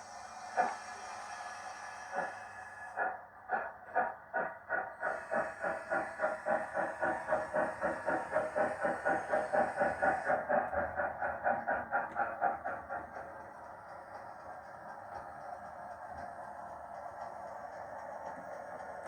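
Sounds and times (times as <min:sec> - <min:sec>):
steady steam hiss: 0:00.0 - 0:19.0
steam locomotive chuffs from speaker: 0:00.0 - 0:19.0.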